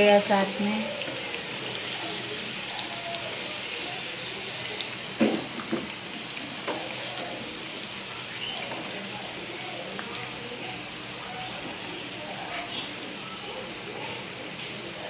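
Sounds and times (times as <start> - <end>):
okra sizzling in oil: 0.0 - 15.0.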